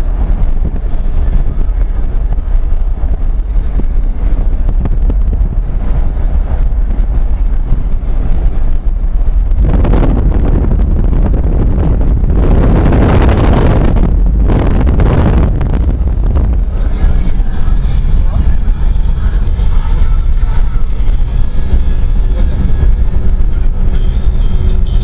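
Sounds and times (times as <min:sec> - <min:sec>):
road and engine rumble: 0:00.0 - 0:25.0
wind buffeting microphone: 0:00.0 - 0:25.0.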